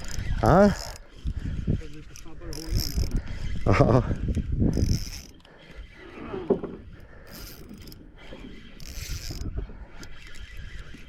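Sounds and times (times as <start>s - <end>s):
fishing reel being cranked: 0.0s - 11.0s.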